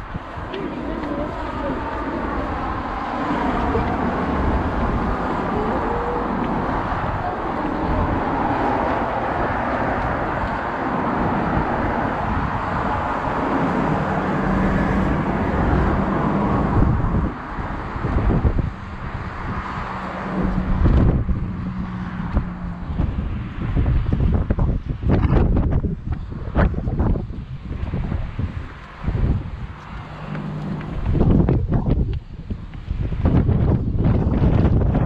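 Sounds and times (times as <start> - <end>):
faint voices of passers-by: 0.0 - 34.8
engine hum: 0.0 - 35.0
road traffic going by: 0.0 - 35.0.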